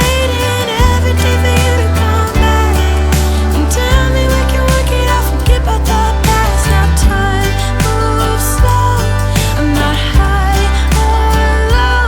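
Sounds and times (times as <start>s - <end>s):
pop music with bass and drums: 0.0s - 12.0s.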